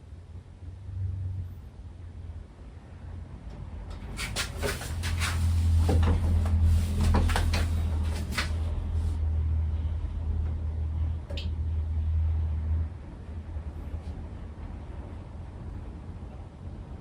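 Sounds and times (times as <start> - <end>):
ceiling fan humming: 0.0 - 17.0.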